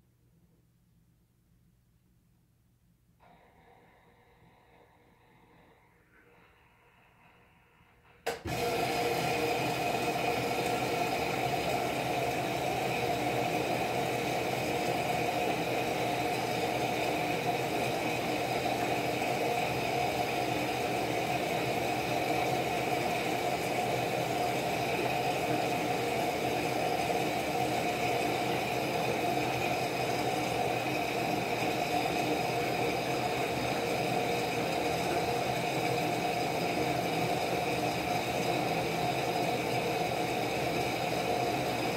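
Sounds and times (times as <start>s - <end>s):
washing machine hum and whir: 3.2s - 41.9s.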